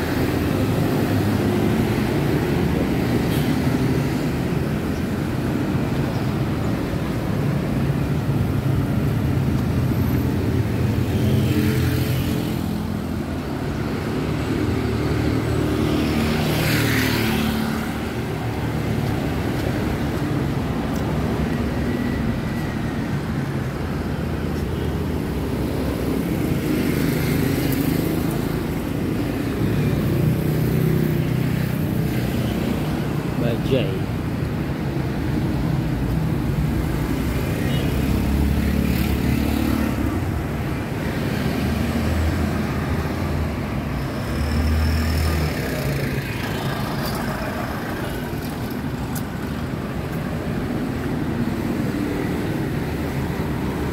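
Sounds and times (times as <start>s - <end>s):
cars and motorcycles passing: 0.0s - 53.9s.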